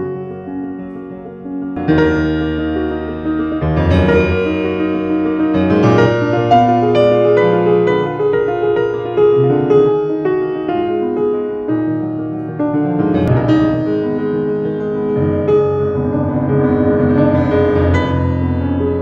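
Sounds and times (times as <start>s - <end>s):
classical piano piece: 0.0s - 19.0s.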